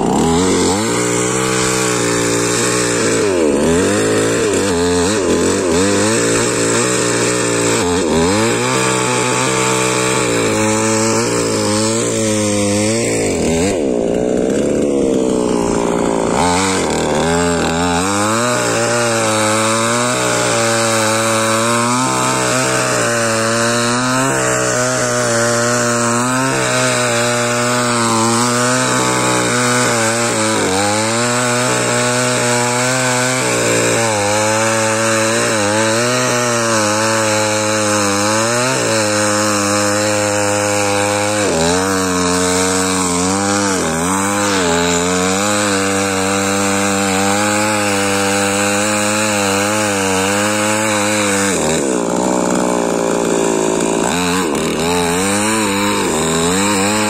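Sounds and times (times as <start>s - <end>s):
chainsaw cutting into log: 0.0s - 57.0s.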